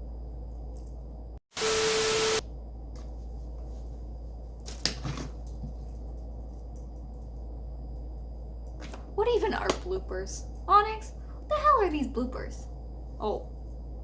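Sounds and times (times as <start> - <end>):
low room hum: 0.0 - 1.4, 2.4 - 14.0.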